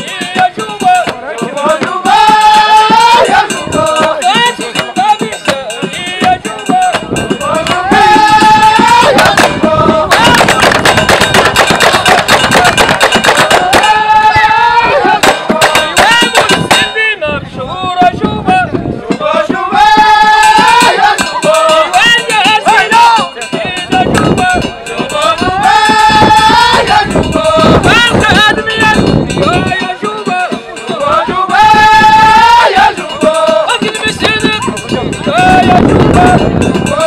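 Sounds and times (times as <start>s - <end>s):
fast drum and hand percussion: 0.0s - 37.0s
reedy wind instrument melody: 0.0s - 37.0s.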